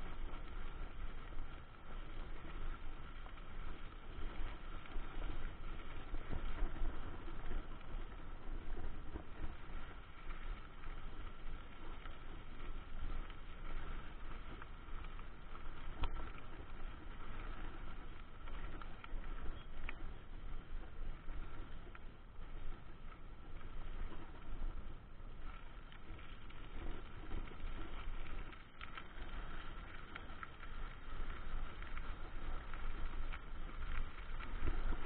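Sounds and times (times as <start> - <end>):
bike tyres crunching on gravel: 0.0 - 35.0
wind rumble on microphone: 0.0 - 35.0.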